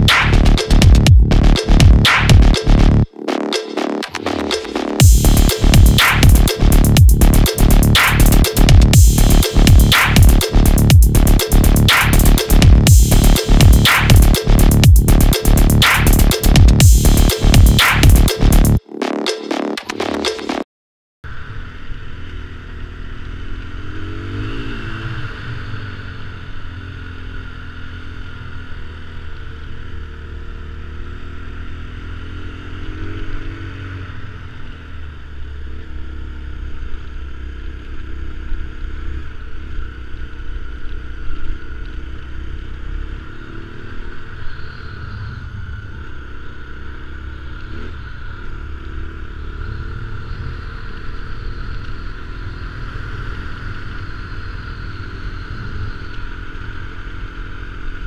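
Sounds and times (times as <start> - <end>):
motorcycle engine revving: 0.0 - 18.8, 21.4 - 58.0.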